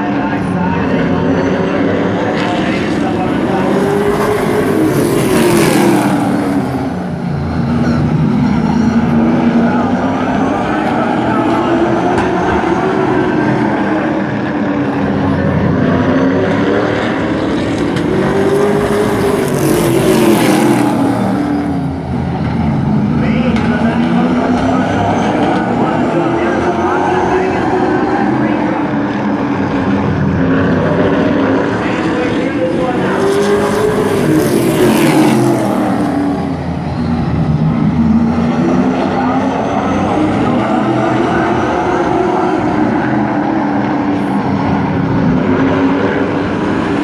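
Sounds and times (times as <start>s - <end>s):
race truck engines running: 0.0s - 47.0s.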